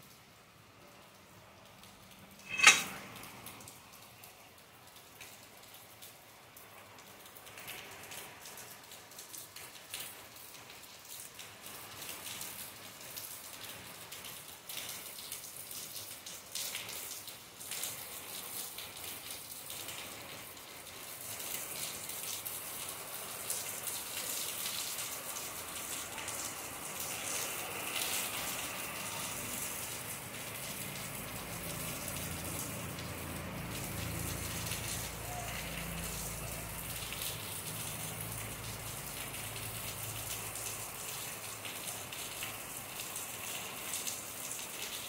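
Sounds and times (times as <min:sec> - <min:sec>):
rain on leaves and paving: 0:00.0 - 0:45.0.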